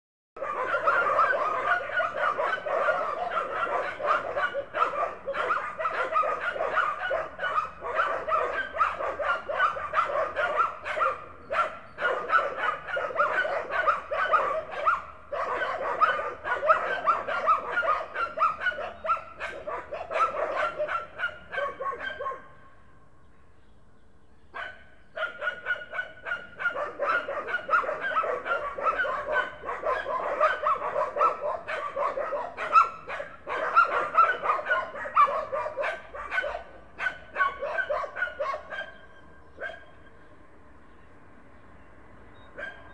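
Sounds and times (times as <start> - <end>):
dogs barking and yipping: 0.4 - 22.6, 24.6 - 40.1, 42.4 - 42.9.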